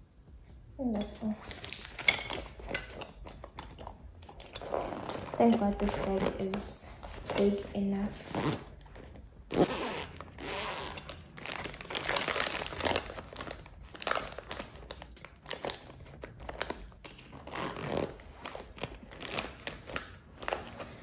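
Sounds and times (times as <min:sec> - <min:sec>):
plastic packaging crinkling: 0:01.2 - 0:21.0.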